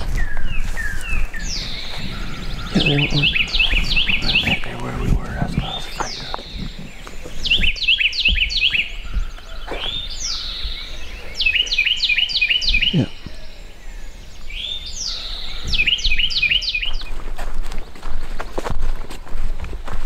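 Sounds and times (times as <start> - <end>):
songbird singing: 0.0 - 19.4.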